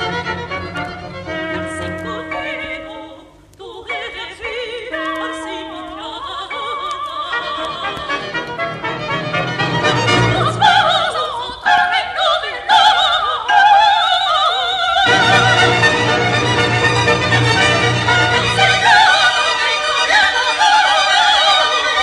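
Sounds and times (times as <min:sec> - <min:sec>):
woman singing operatically: 0:00.0 - 0:08.6, 0:10.1 - 0:16.5, 0:17.2 - 0:22.0
orchestra: 0:00.0 - 0:14.2, 0:14.8 - 0:22.0.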